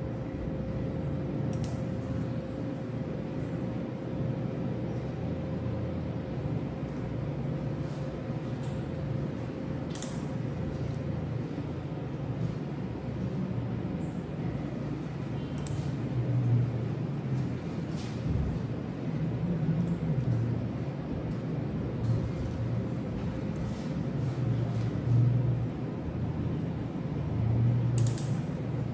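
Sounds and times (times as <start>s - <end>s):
faint constant whine: 0.0s - 28.9s
low room hum: 0.0s - 28.9s.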